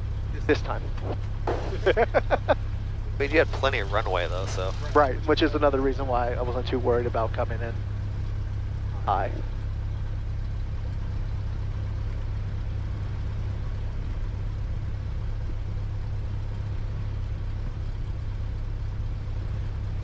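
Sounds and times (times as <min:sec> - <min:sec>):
piston aircraft engine running: 0:00.0 - 0:20.0.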